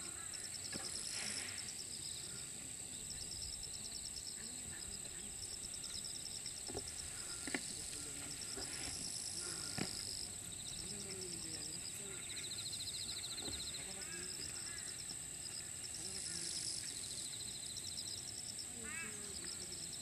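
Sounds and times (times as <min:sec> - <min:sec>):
high-pitched insect hum: 0:00.0 - 0:20.0
insects chirping: 0:00.0 - 0:20.0.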